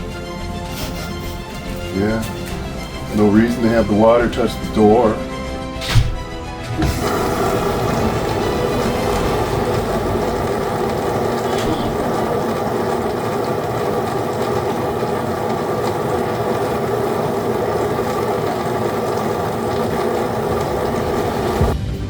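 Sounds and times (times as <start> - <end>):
background music: 0.0 - 16.0, 16.6 - 22.0.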